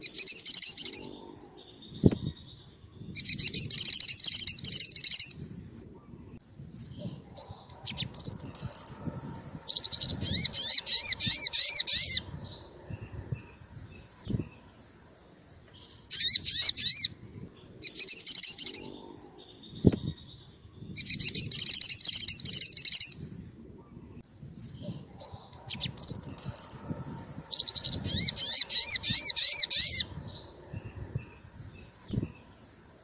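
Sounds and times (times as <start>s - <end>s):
sunbird chirping: 0.0s - 33.0s.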